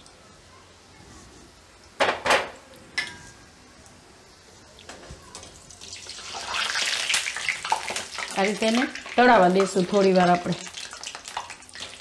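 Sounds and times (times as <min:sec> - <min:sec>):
fritters deep-frying in hot oil: 0:00.0 - 0:12.0.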